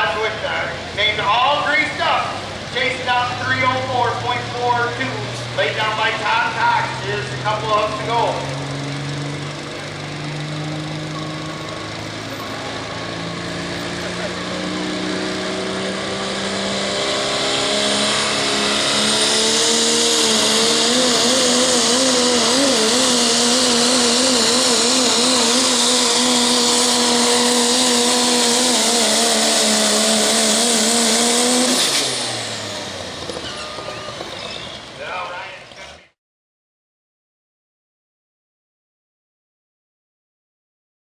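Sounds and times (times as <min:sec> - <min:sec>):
diesel pickup engine at full throttle: 0:00.0 - 0:36.2.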